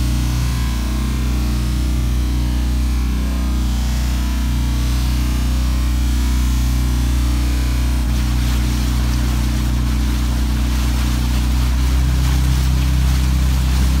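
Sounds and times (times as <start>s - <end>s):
motorboat engine humming: 0.0s - 14.0s
water rushing: 0.0s - 14.0s.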